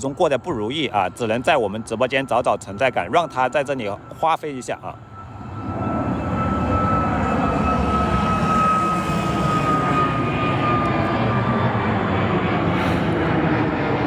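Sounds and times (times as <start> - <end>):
jet engines with high whine: 0.0 - 14.0.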